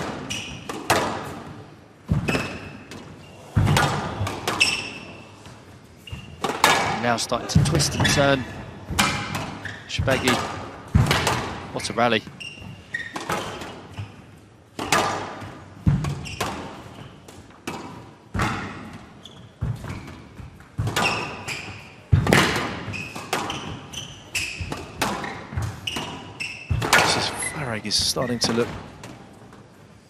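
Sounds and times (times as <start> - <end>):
shoes squeaking on court floor: 0.0 - 30.0
squash ball hitting rackets and walls: 0.0 - 30.0.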